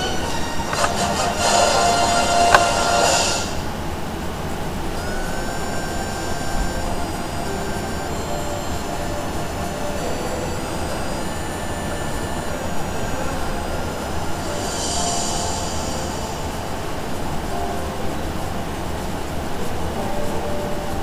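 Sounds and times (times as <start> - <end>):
high thin squealing tones: 0.0 - 3.8, 5.0 - 19.2.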